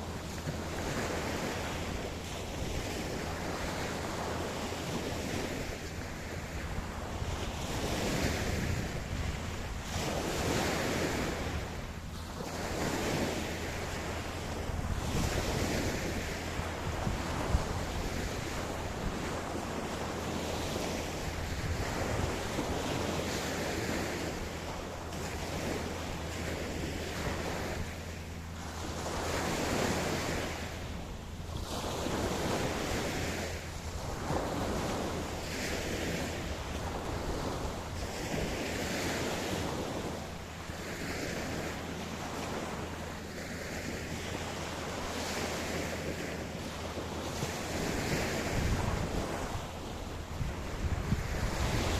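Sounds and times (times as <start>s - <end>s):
ocean surf washing on beach: 0.0s - 51.9s.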